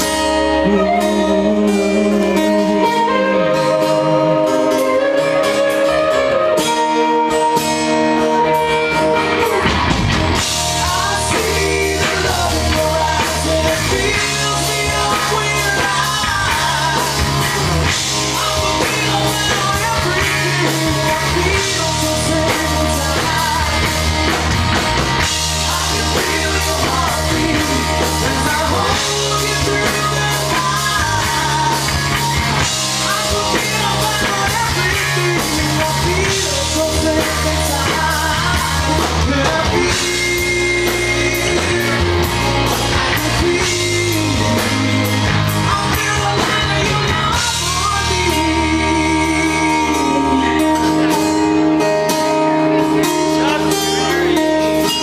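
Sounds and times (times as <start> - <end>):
guitars ringing: 0.0 - 55.0
live rock band playing: 0.0 - 55.0
man singing lead vocals: 0.0 - 55.0.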